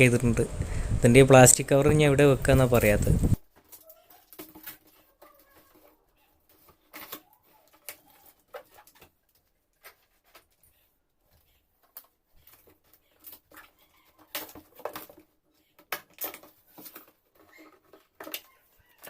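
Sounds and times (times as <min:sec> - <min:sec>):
plastic wrap crinkling: 0:03.3 - 0:19.0.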